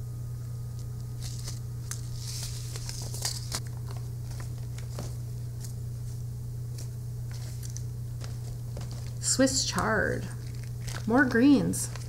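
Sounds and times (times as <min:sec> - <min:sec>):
low electrical hum: 0:00.0 - 0:12.0
paper packets rustling: 0:01.1 - 0:12.0.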